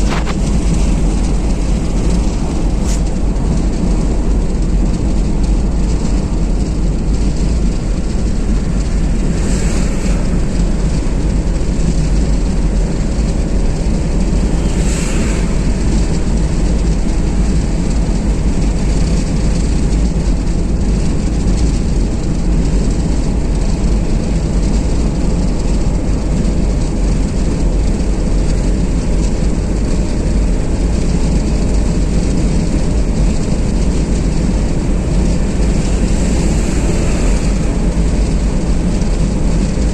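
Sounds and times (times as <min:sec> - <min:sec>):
car road noise on motorway: 0:00.0 - 0:39.9.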